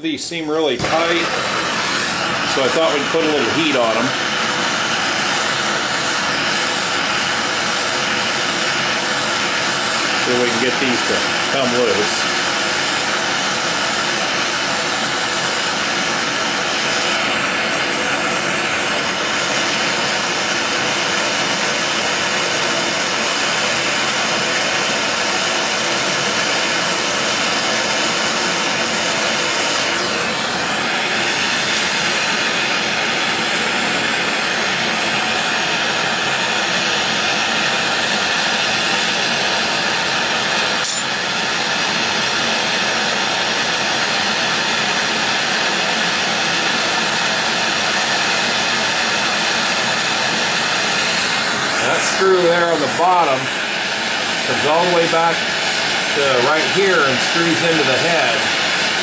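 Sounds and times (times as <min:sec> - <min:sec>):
gas torch flame hissing: 0:00.0 - 0:59.0.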